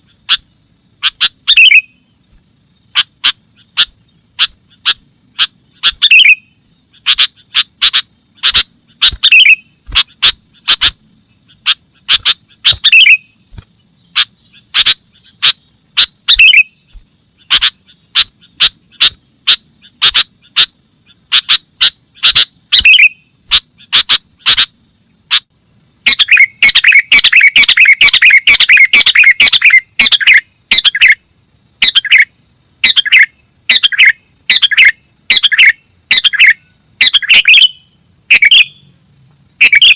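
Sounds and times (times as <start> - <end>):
bulbul calling: 0.0 - 31.2, 31.8 - 39.0, 39.6 - 39.9
high insect trill: 0.0 - 39.9.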